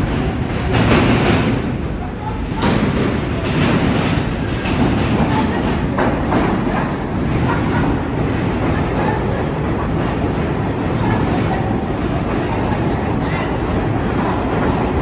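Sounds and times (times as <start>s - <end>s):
subway train rumbling: 0.0s - 15.0s
wheels clicking over rail joints: 2.6s - 15.0s.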